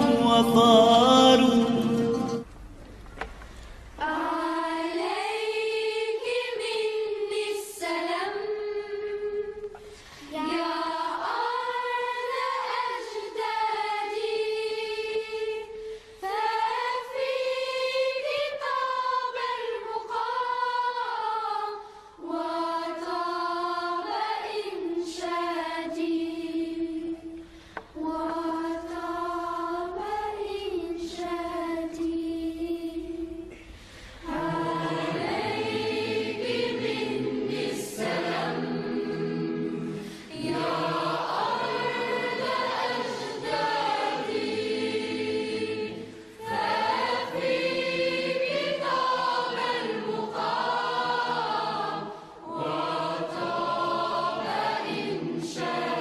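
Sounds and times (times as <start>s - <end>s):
group of voices singing: 0.0s - 2.4s, 4.0s - 27.4s, 28.0s - 56.0s.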